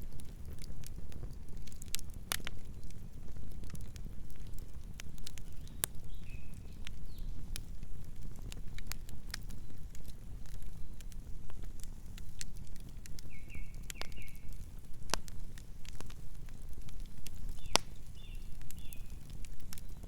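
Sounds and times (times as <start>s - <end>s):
campfire crackling: 0.0s - 20.0s
campfire popping: 0.0s - 20.0s.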